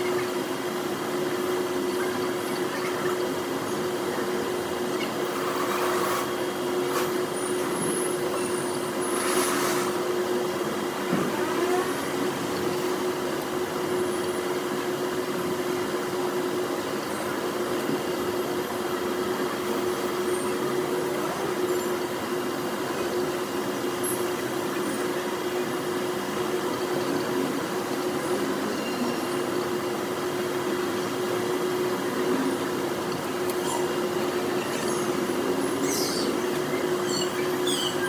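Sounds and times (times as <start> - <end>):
mechanical hum: 0.0 - 38.0.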